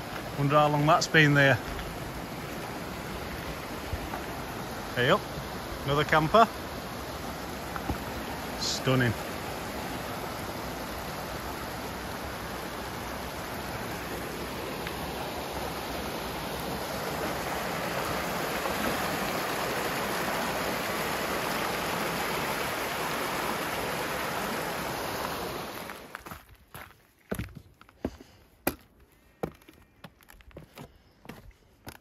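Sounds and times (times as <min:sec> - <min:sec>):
stream water rushing: 0:00.0 - 0:26.3.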